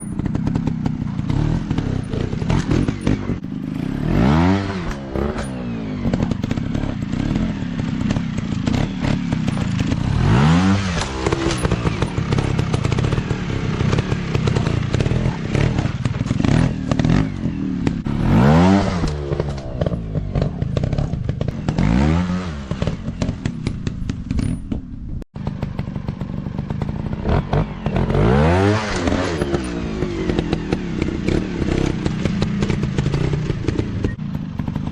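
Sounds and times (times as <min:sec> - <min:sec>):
dirt bike engines revving: 0:00.0 - 0:24.6, 0:25.4 - 0:34.9
bikes clattering and thumping: 0:00.0 - 0:34.9.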